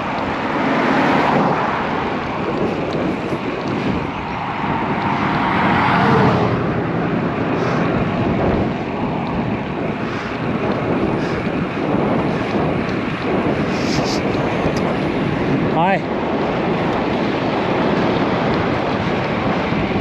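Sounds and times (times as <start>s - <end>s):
motor vehicle passing: 0.0s - 20.0s
wind noise on microphone: 0.0s - 20.0s.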